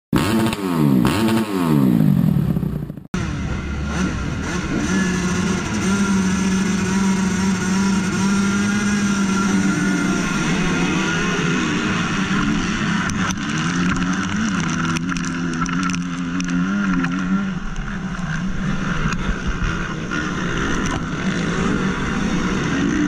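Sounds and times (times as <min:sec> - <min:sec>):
engine revving: 0:00.1 - 0:23.0.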